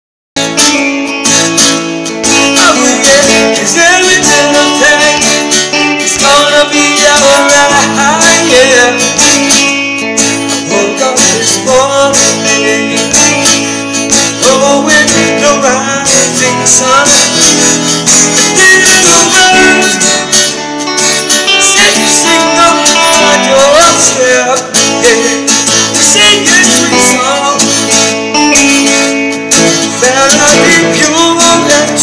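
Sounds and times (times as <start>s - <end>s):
acoustic guitar strumming chords: 0.4s - 32.0s.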